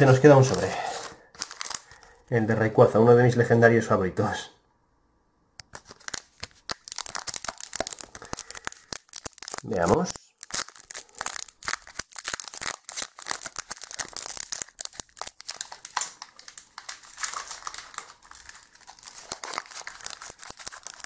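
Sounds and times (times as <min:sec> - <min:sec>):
foil wrapper crinkling: 0:00.0 - 0:02.3, 0:05.6 - 0:21.0.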